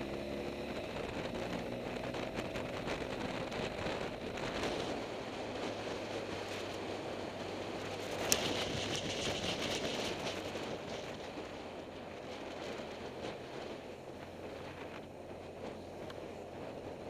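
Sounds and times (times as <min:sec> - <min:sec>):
low engine hum: 0:00.0 - 0:17.0
wind rush: 0:00.0 - 0:17.0.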